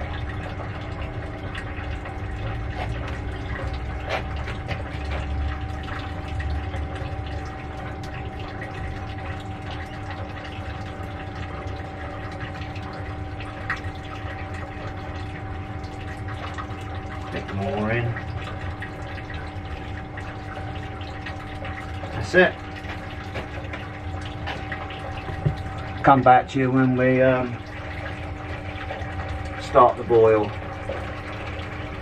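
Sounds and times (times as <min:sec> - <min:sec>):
liquid splashing: 0:00.0 - 0:32.0
small electric pump humming: 0:00.0 - 0:32.0.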